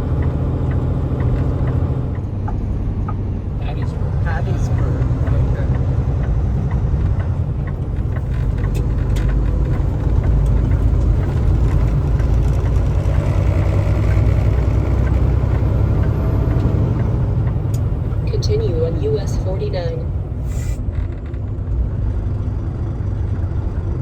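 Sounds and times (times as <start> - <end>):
diesel engine rumble: 0.0 - 24.0.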